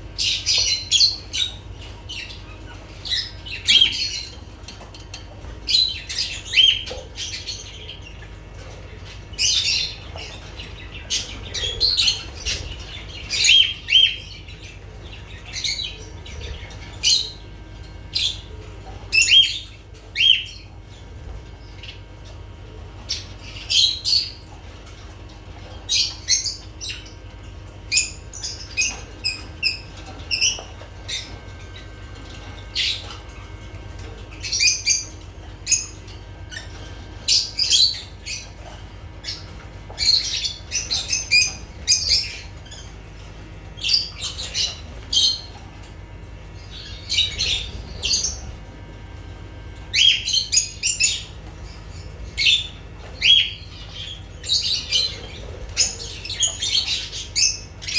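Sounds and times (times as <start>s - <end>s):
lovebirds chirping and squawking: 0.0s - 57.9s
low steady hum: 0.0s - 57.9s.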